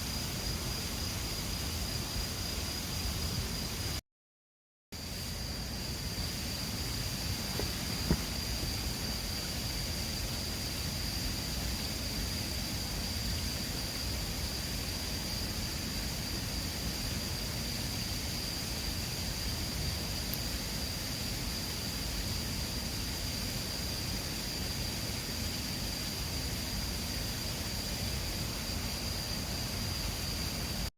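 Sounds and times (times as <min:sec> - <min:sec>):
high-pitched insect tone: 0:05.0 - 0:30.9.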